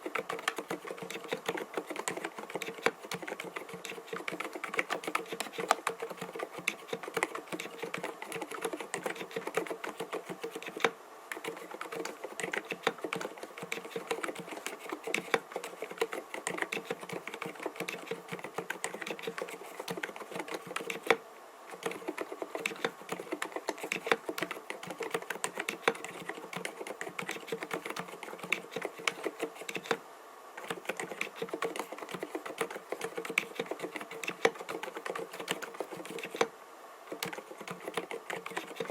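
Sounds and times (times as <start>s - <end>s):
fast typing on a keyboard: 0.0s - 30.0s, 30.6s - 36.5s, 37.1s - 38.9s.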